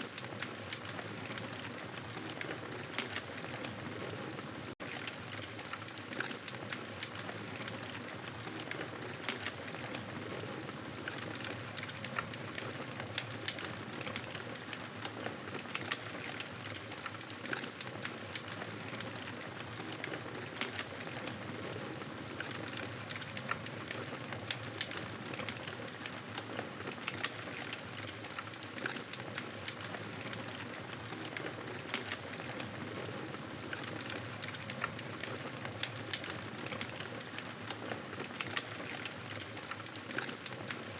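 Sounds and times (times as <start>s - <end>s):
campfire crackling: 4.8s - 40.9s.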